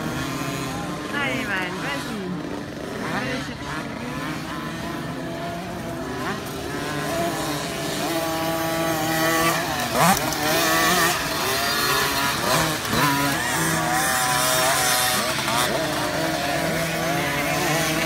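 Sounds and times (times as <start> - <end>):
dirt bikes revving past: 0.0 - 18.0.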